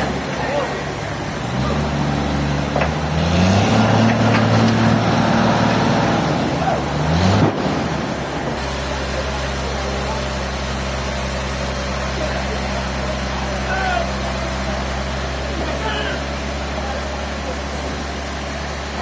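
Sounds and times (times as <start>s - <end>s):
engine running and revving: 1.0s - 19.0s.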